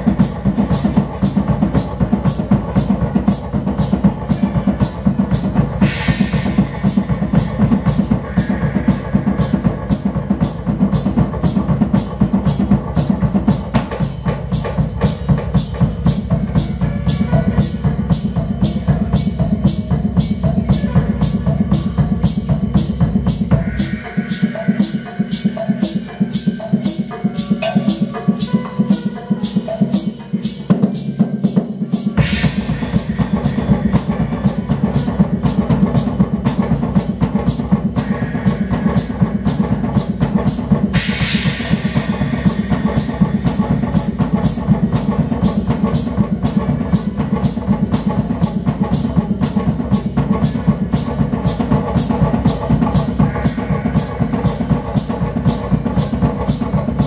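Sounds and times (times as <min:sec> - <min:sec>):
live music with fast drum beat: 0:00.0 - 0:57.0.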